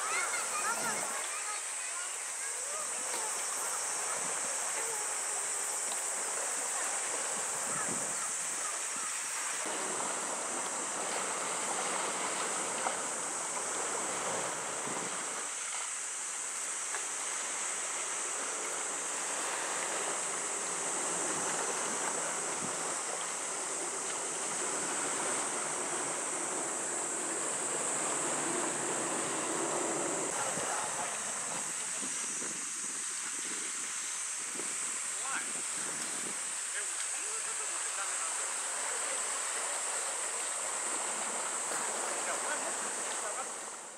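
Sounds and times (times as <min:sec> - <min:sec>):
small waves on open water: 0:00.0 - 0:43.9
wind: 0:00.0 - 0:43.9.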